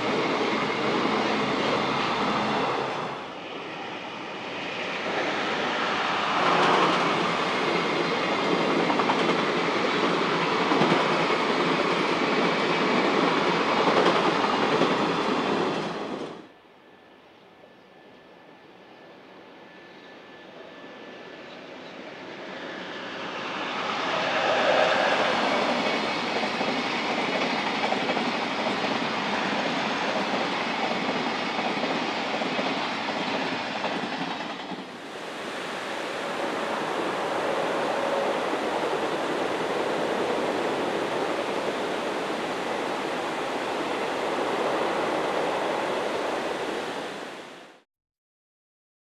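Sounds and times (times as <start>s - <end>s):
train wheels on track: 0.0s - 16.6s, 17.9s - 47.8s.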